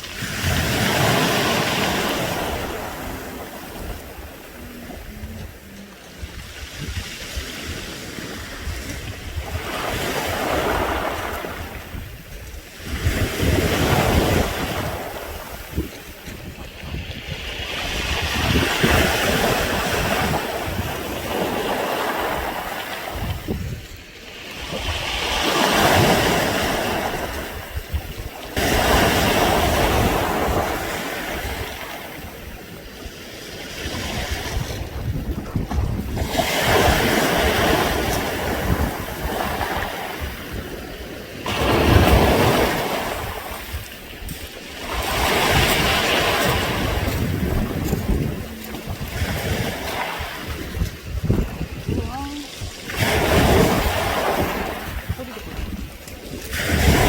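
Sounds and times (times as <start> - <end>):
waves washing over pebbles: 0.0 - 57.0.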